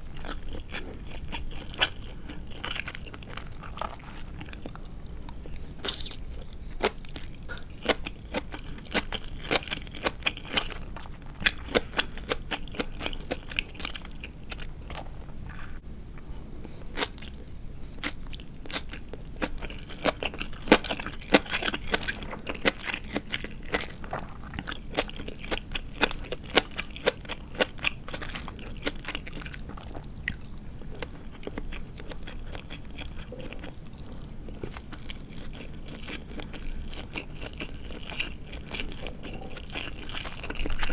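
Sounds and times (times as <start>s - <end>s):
crunchy chewing of fried chicken: 0.0s - 40.9s.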